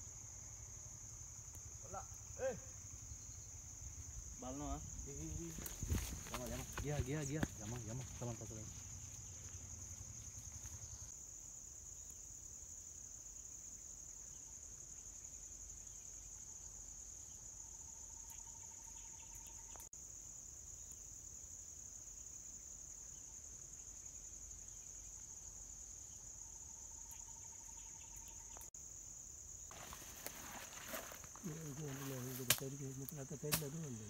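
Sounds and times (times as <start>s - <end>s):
insect chorus drone: 0.0s - 34.0s.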